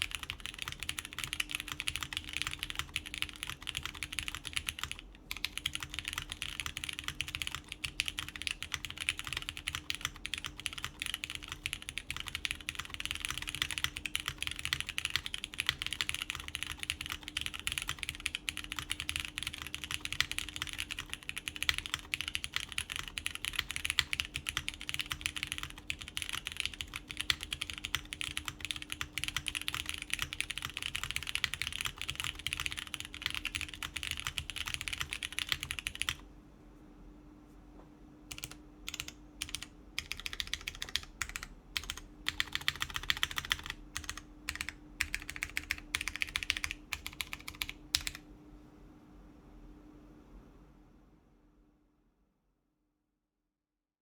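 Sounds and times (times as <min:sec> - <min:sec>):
fast typing on mechanical keyboard: 0:00.0 - 0:36.2, 0:38.3 - 0:48.2.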